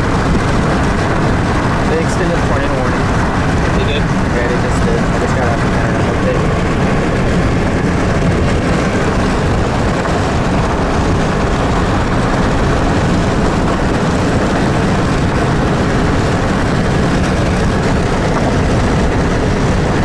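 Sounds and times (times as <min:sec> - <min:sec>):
vehicle cabin rushing noise: 0:00.0 - 0:20.0.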